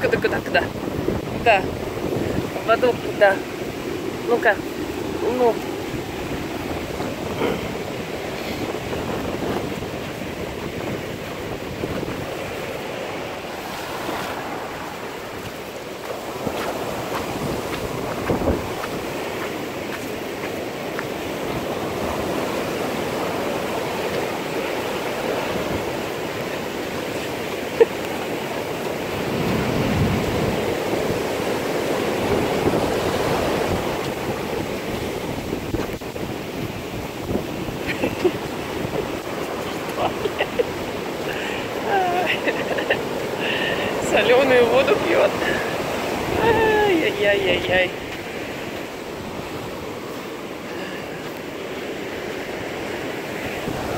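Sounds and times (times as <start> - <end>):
wind buffeting microphone: 0.0 - 51.5
surf washing onto beach: 0.0 - 53.9.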